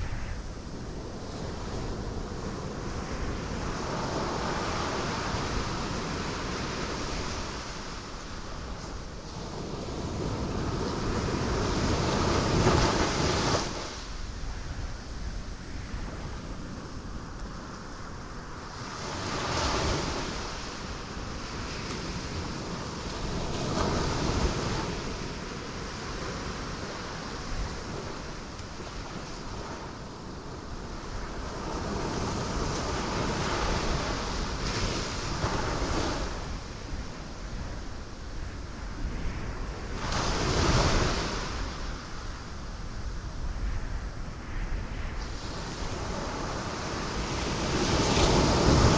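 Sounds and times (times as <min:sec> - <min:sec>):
ocean waves crashing on rocks: 0:00.0 - 0:14.5, 0:18.1 - 0:43.5, 0:45.2 - 0:48.9.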